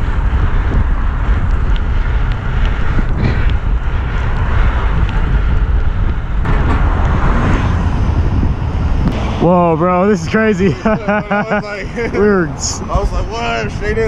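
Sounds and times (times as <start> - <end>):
road noise on wet road: 0.0 - 14.0
wind rumble on microphone: 0.0 - 14.0.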